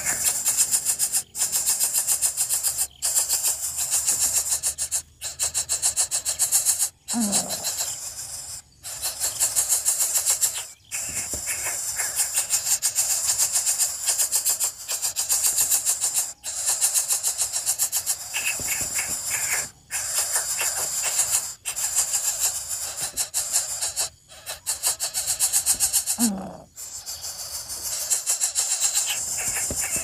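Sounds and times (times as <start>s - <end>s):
nestlings begging with rasping hiss: 0.0s - 30.0s.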